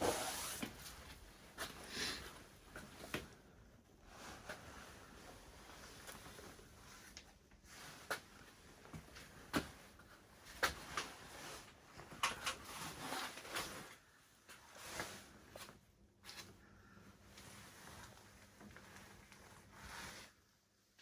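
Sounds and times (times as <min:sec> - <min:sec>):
soft rustling: 0:04.0 - 0:20.9.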